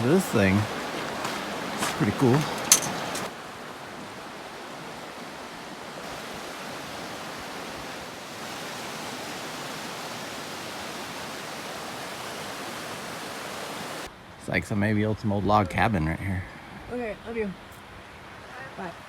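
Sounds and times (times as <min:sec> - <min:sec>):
river water rushing: 0:00.0 - 0:14.4, 0:16.0 - 0:19.0.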